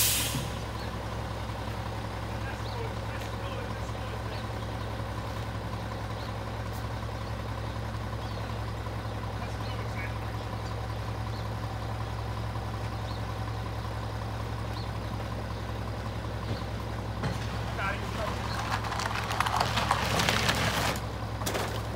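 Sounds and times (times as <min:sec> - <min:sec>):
diesel truck engine idling: 0:00.0 - 0:21.9.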